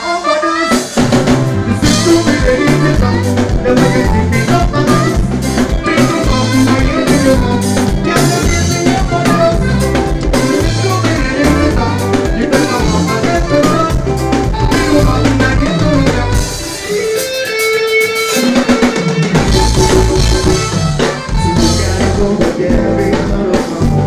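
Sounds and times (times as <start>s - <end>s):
saxophone-led horn line: 0.0s - 23.2s
drum kit beat: 0.0s - 24.0s.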